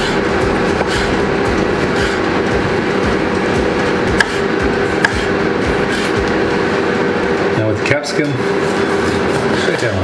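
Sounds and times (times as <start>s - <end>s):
air fryer fan humming: 0.0s - 10.0s.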